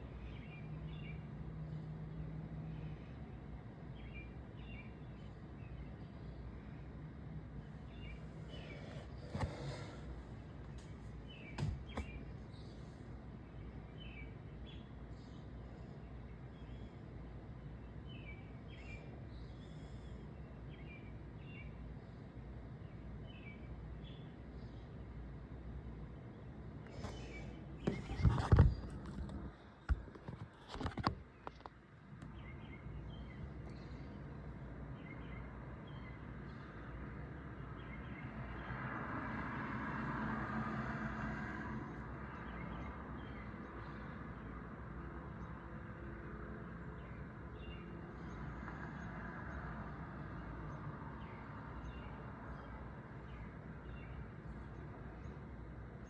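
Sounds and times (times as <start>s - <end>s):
outdoor night background noise: 0.0s - 56.0s.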